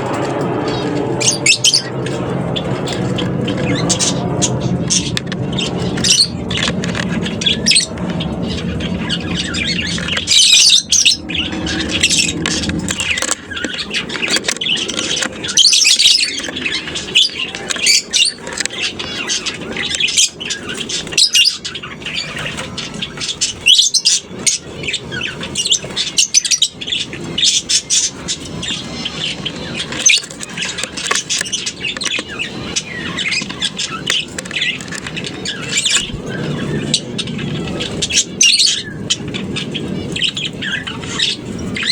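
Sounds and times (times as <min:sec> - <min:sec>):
lovebirds chattering: 0:00.0 - 0:41.9.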